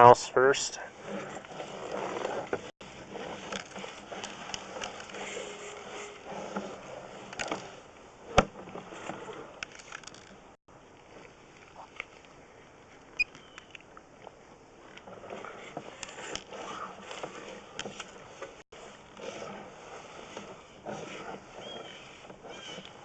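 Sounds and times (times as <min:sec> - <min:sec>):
cable scraping and rattling: 0:00.0 - 0:12.3, 0:14.2 - 0:23.0.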